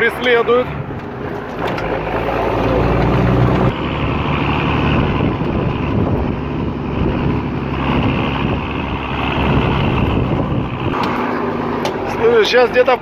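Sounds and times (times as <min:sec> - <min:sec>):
truck engine running: 0:00.0 - 0:13.0
wind buffeting microphone: 0:00.7 - 0:12.2.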